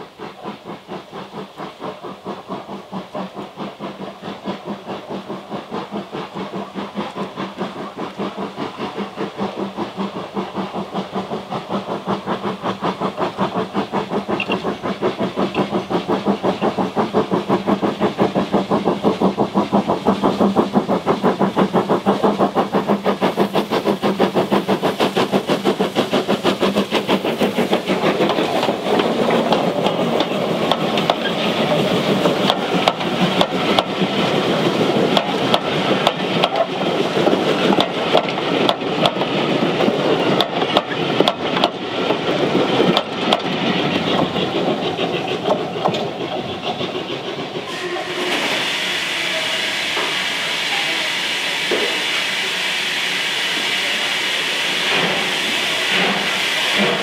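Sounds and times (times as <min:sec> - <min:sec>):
coaches passing with rail noise: 0:00.0 - 0:57.0
steam locomotive exhaust beats: 0:00.0 - 0:57.0.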